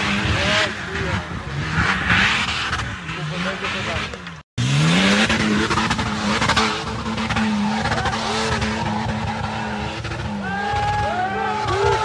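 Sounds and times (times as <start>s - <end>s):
suv engine revving high: 0.0s - 12.0s.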